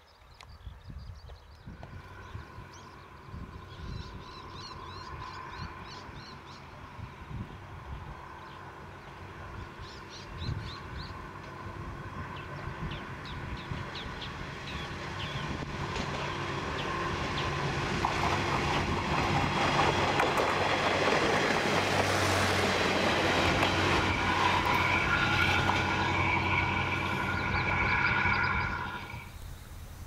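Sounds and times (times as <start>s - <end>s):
diesel railcar engine drone: 1.5s - 30.0s
train wheels on rails: 1.8s - 30.0s.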